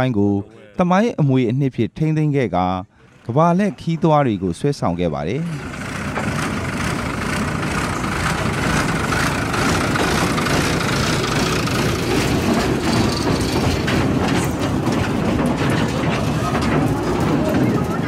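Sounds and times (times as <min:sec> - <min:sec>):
carriages rolling rumble: 0:02.9 - 0:18.0
diesel locomotive passing: 0:02.9 - 0:18.0
wheels clicking on rails: 0:03.0 - 0:18.0.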